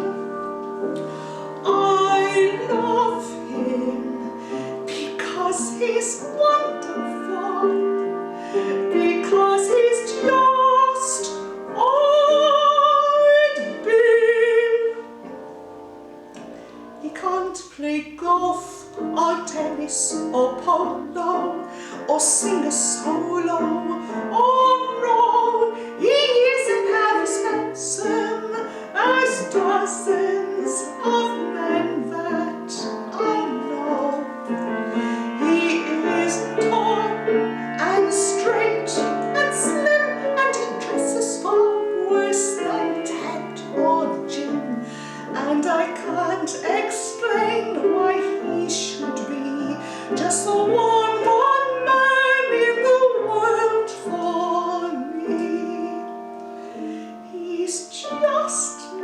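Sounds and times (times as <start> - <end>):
woman singing: 0.0 - 15.2, 17.0 - 59.0
piano: 0.0 - 59.0.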